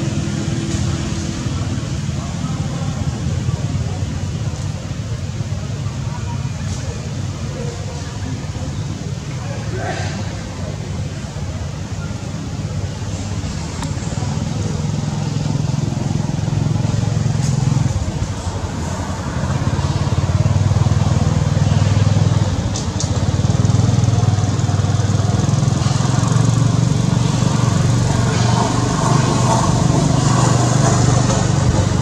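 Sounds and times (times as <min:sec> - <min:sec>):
engine droning: 0:00.0 - 0:32.0.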